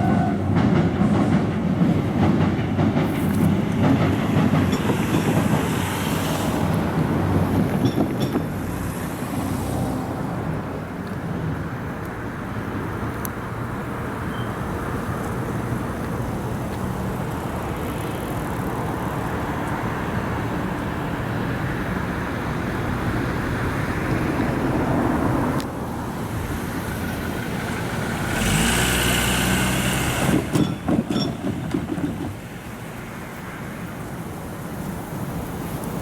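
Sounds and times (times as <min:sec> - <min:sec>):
vehicles passing rumble: 0:00.0 - 0:36.0.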